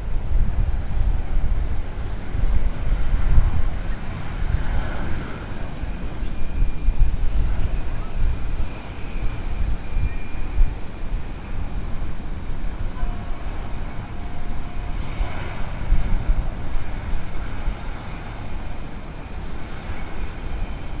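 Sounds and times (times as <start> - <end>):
jet engine roar: 0.0 - 21.0
wind buffeting microphone: 0.0 - 21.0.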